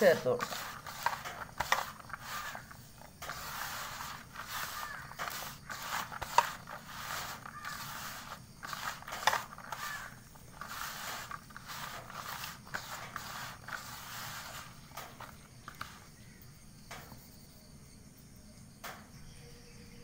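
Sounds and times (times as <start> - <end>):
hand mixing food in bowl: 0.0 - 16.0.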